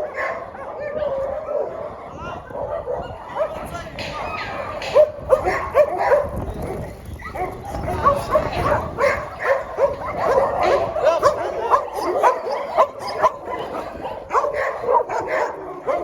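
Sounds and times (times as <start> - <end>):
many dogs barking and yipping: 0.0 - 16.0.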